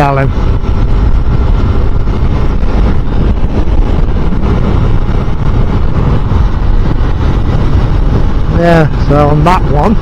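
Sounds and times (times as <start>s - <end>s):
motorcycle engine rumble: 0.0s - 10.0s
wind rushing over microphone: 0.0s - 10.0s.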